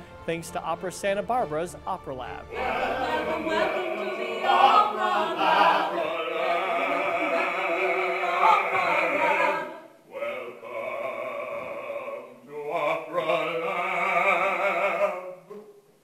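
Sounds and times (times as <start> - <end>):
opera singers singing in harmony: 2.5 - 15.6.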